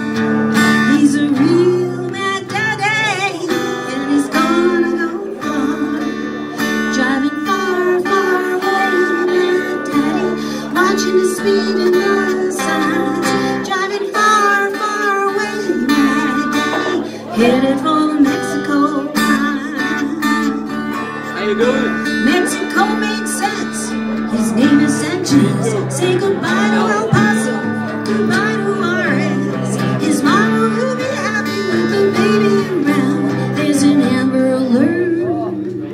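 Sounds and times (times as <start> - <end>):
acoustic guitar strummed: 0.0 - 35.9
woman singing: 0.0 - 35.9.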